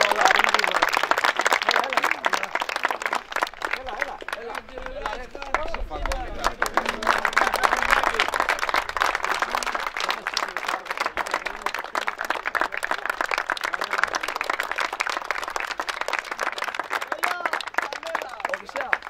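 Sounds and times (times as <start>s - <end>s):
boys clapping: 0.0s - 19.0s.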